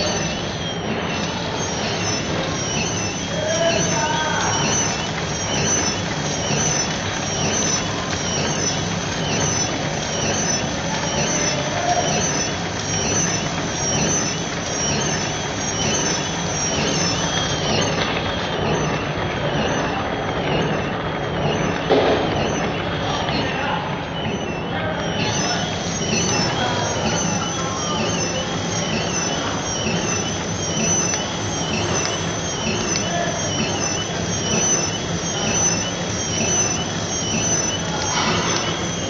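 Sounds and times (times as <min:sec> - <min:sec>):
machine clatter: 0:00.0 - 0:39.0
packing machine hum: 0:00.0 - 0:39.0.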